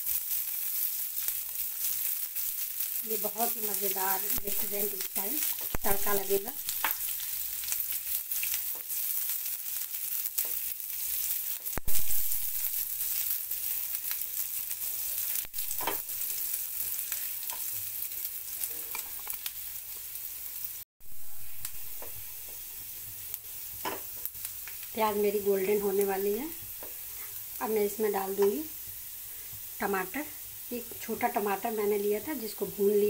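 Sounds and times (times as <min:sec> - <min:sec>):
onion sizzling in a pan: 0:00.0 - 0:33.0.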